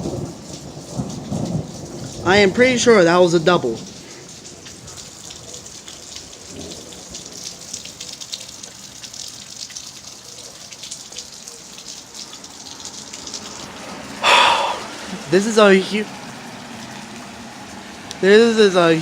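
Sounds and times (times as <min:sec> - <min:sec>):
raindrop impacts ticking: 0:00.0 - 0:19.0
steady rain: 0:00.0 - 0:19.0.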